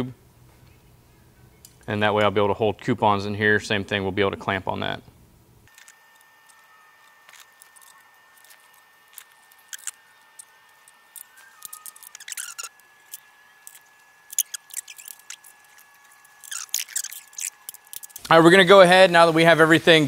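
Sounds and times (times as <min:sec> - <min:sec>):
faint steady whine: 0:00.0 - 0:20.0.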